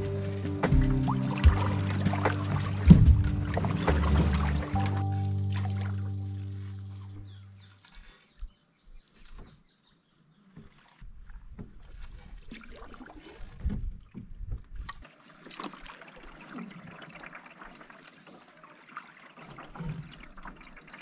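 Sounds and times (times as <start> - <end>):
water dripping and splashing: 0.0 - 8.5, 10.5 - 21.0
canoe paddle strokes in water: 0.0 - 9.7, 10.4 - 21.0.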